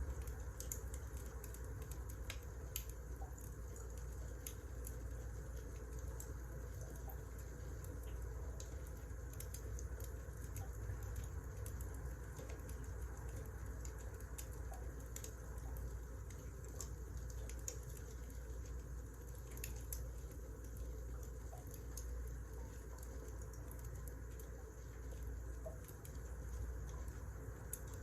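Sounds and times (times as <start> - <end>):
firewood crackling and popping: 0.0 - 28.0
low rumble of fire: 0.0 - 28.0.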